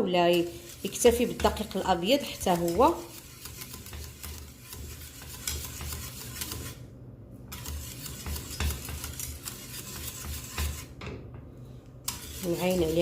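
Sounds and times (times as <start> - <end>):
utensil stirring custard in saucepan: 0.0 - 6.9, 7.5 - 11.0, 12.0 - 13.0.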